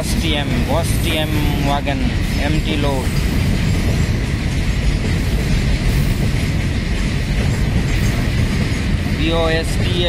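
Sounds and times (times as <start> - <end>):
freight wagons rumbling on rails: 0.0 - 10.0.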